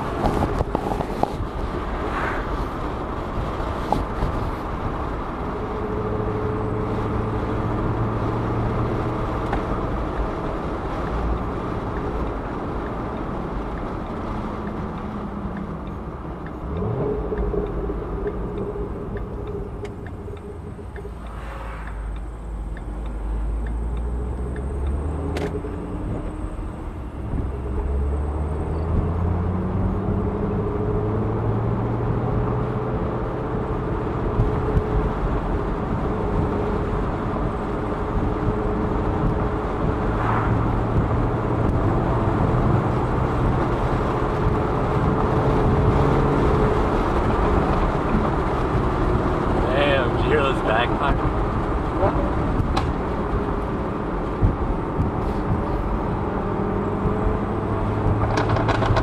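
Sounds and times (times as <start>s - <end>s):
tyre and wind noise: 0.0s - 17.1s, 24.2s - 59.0s
car engine inside cabin: 0.0s - 59.0s.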